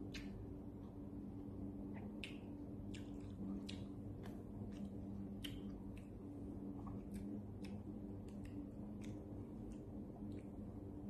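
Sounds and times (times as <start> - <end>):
chewing and eating clicks: 0.0 - 0.6, 1.9 - 11.0
low hum: 0.0 - 11.0.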